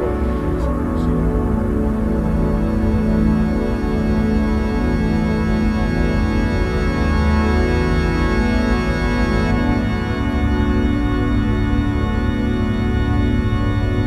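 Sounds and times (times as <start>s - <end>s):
slow organ-like chord music: 0.0s - 14.0s.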